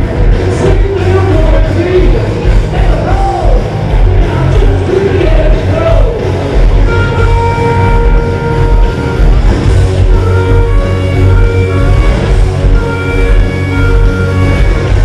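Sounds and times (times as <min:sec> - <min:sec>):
rock band playing live: 0:00.0 - 0:15.0
sliding melody line: 0:00.0 - 0:15.0.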